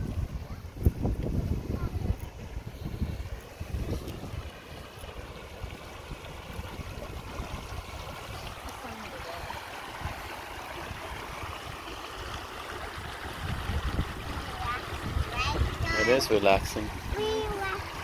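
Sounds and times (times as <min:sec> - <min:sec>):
wind rumble on microphone: 0:00.0 - 0:11.9, 0:12.9 - 0:18.0
stream running water: 0:00.0 - 0:18.0.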